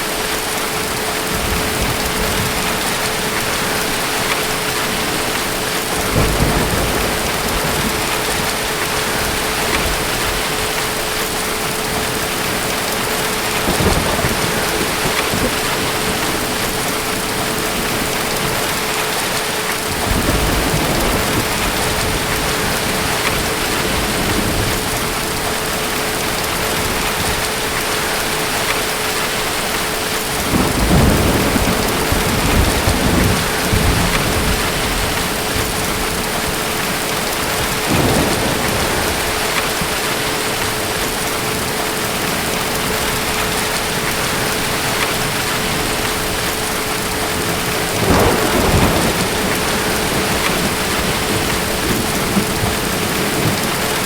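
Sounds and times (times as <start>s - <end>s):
steady rain: 0.0s - 54.0s
rolling thunder: 1.4s - 28.7s, 30.3s - 54.0s.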